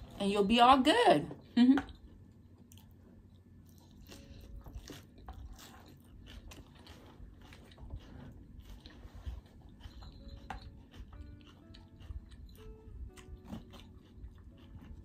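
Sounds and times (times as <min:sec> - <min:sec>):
person chewing crunchy salad: 0:01.9 - 0:15.0.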